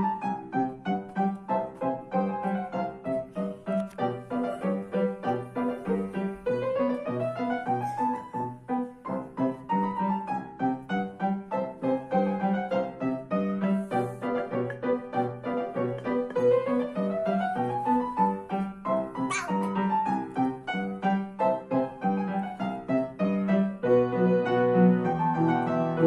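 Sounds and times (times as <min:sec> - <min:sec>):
lively piano music: 0:00.0 - 0:26.0.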